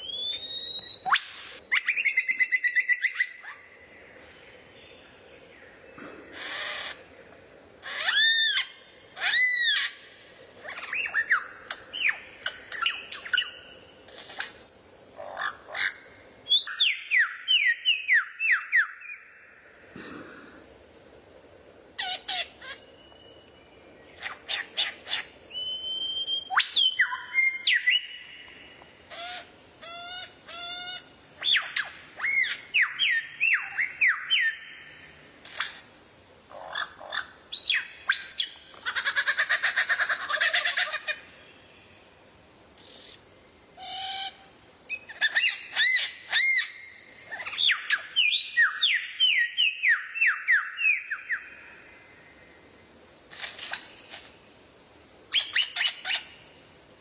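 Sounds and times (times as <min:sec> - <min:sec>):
songbird singing: 0:00.0 - 0:20.7, 0:21.6 - 0:57.0.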